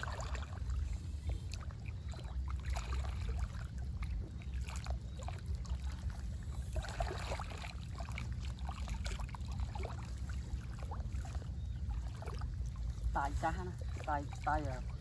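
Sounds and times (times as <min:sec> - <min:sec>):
low rumble: 0:00.0 - 0:15.0
water splashing and trickling: 0:00.0 - 0:15.0.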